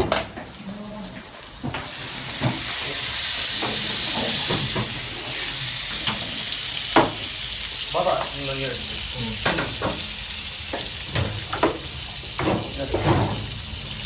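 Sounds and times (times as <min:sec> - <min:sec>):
chicken sizzling in a hot pan: 0:00.3 - 0:14.0.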